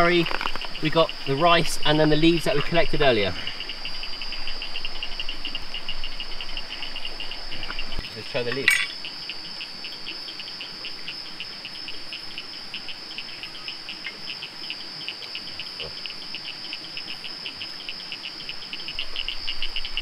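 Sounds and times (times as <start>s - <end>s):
fast pulsing insect chirp: 0.0s - 20.0s
high-pitched insect drone: 0.0s - 20.0s.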